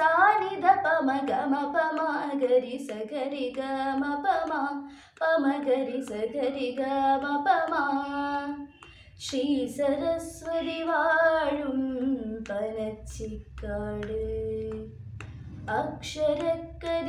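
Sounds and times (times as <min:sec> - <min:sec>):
girl singing: 0:00.0 - 0:15.0, 0:15.7 - 0:17.0.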